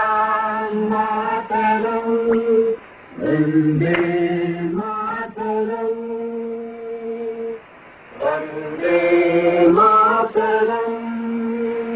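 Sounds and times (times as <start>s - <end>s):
chant sung on long notes: 0.0s - 11.9s.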